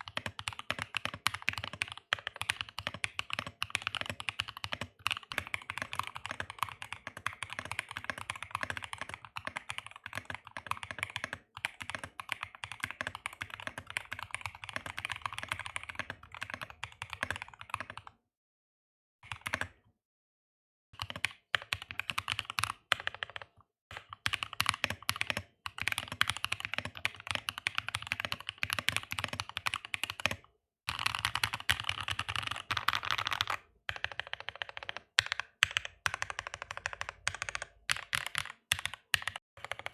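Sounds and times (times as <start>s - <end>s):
fast mechanical keyboard typing: 0.0s - 18.0s, 21.0s - 39.9s.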